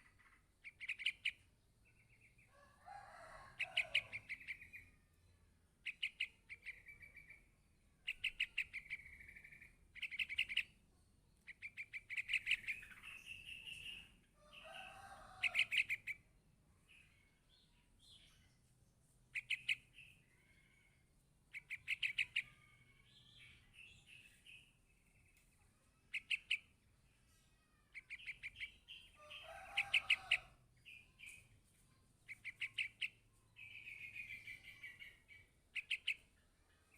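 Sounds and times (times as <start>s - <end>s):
bird chick chirping: 0.0s - 10.8s, 11.4s - 18.5s, 19.3s - 27.0s, 27.6s - 36.9s.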